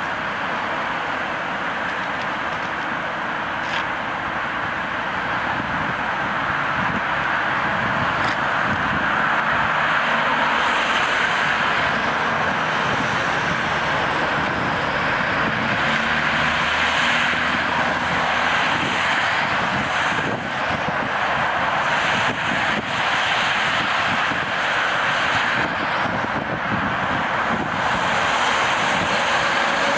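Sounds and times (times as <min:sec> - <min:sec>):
distant traffic: 0:00.0 - 0:29.9.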